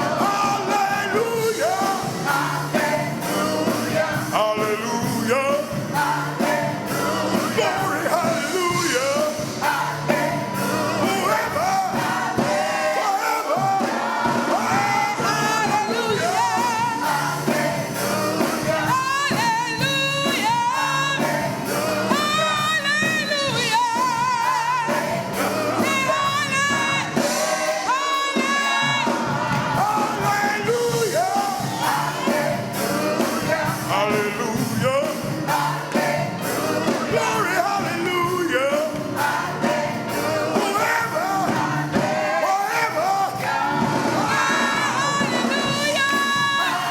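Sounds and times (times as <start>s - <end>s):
gospel singing with vibrato: 0.0s - 46.9s
instrumental accompaniment with beat: 0.0s - 46.9s.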